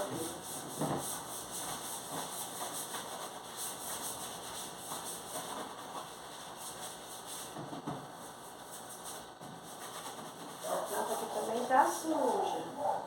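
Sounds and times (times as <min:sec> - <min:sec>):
wiping and scrubbing: 0:00.0 - 0:13.0.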